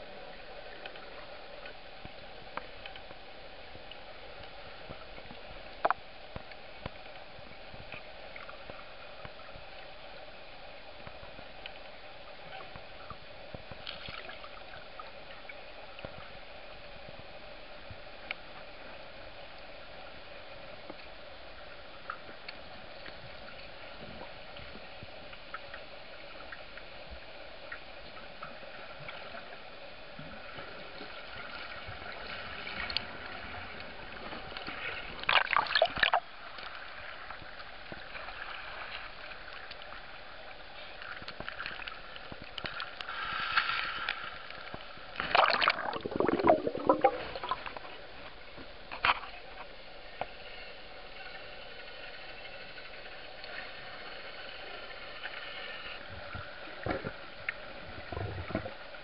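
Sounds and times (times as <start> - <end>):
underwater water hiss and gurgling: 0.0 - 59.0.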